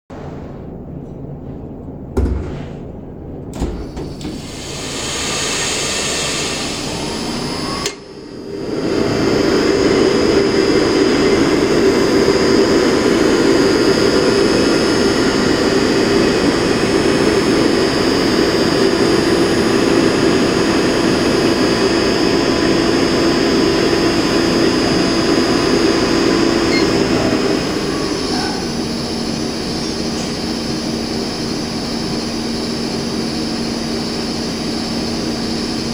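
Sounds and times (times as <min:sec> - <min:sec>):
oven fan motor whirring: 0:03.4 - 0:35.9.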